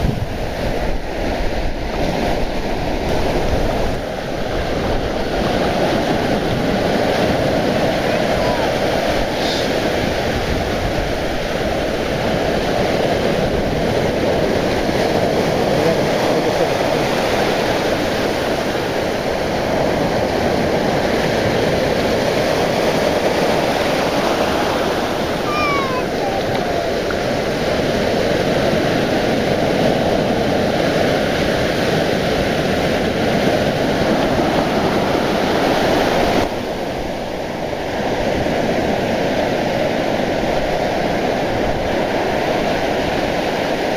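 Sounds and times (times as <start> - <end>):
sea surf breaking: 0.0 - 43.9.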